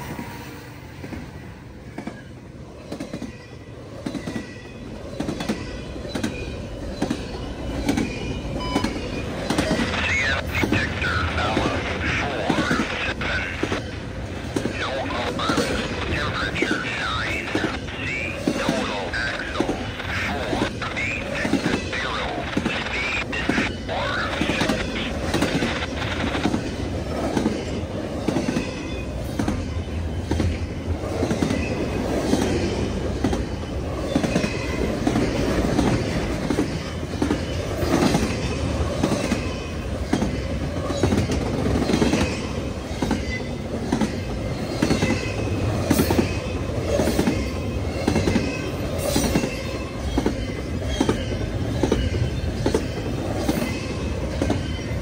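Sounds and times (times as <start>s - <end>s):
train wheels clickety-clack: 1.9s - 55.0s.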